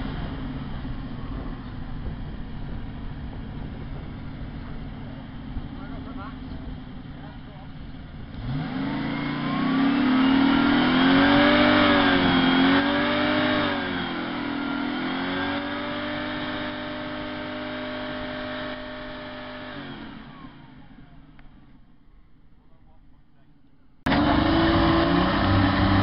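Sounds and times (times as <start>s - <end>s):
engine revving: 0.0s - 21.8s, 24.0s - 26.0s.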